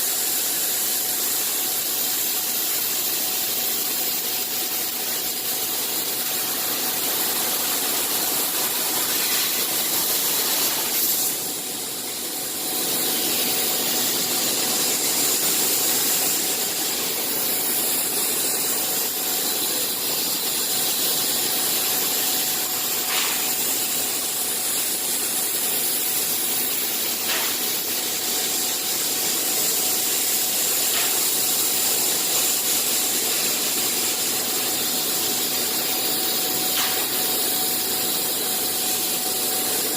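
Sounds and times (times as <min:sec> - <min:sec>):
machine hissing mechanical noise: 0:00.0 - 0:39.9.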